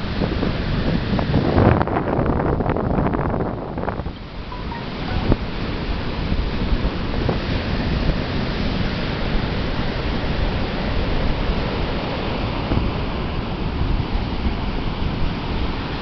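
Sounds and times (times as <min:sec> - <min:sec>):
ocean surf washing on beach: 0:00.0 - 0:16.0
wind buffeting microphone: 0:00.0 - 0:16.0.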